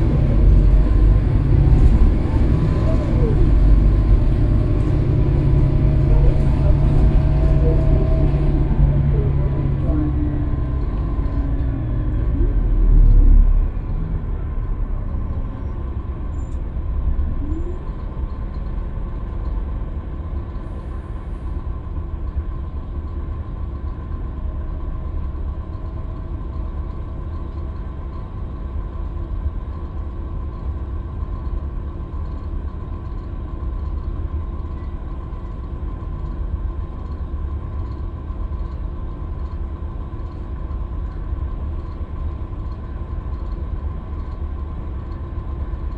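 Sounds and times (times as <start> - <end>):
bus engine and road rumble: 0.0 - 45.9.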